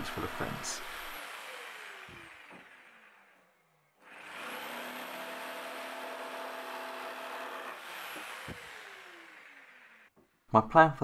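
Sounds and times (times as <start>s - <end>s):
jigsaw cutting plywood: 0.0s - 10.1s.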